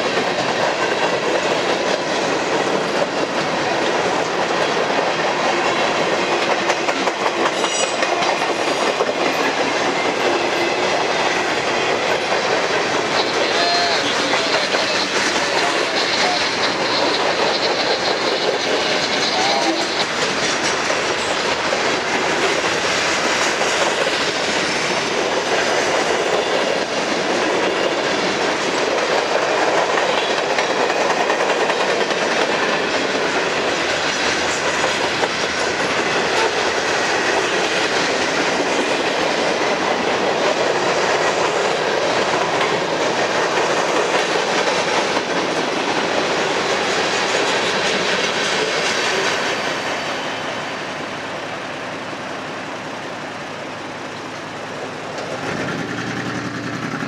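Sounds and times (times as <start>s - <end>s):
steel wheels on rail: 0.0s - 57.0s.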